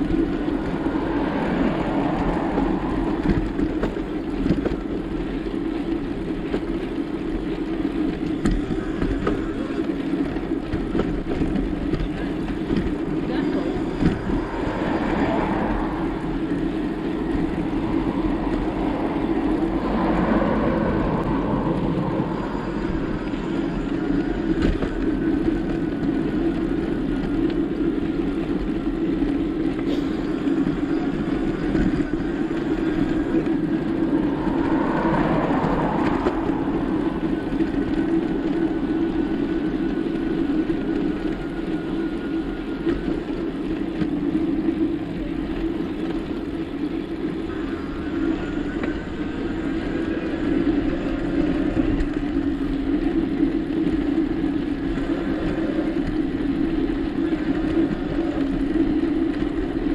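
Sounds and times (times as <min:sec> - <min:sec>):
bicycle tyre noise: 0:00.0 - 0:59.9
wind noise: 0:00.0 - 0:59.9.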